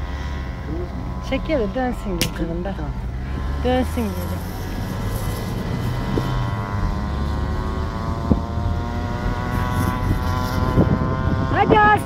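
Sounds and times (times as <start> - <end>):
car engine drone: 0.0 - 12.0.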